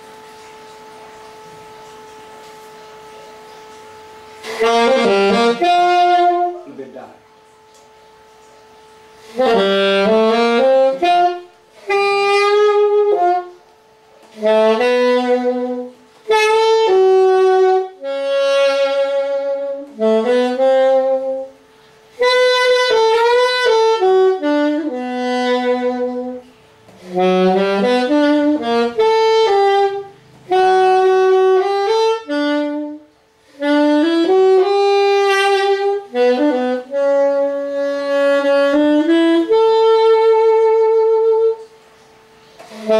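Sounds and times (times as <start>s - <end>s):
alto saxophone phrases: 0.0s - 42.9s.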